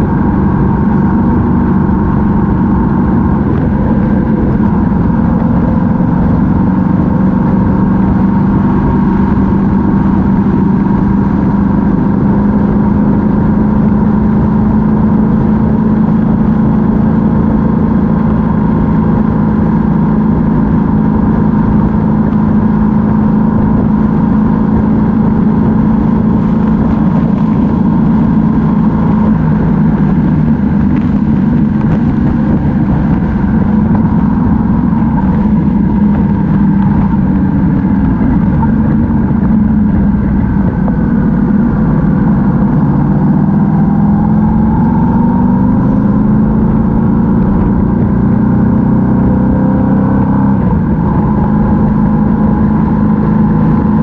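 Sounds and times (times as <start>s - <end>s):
motorcycle engine cruising: 0.0s - 54.0s
wind on microphone: 0.0s - 54.0s.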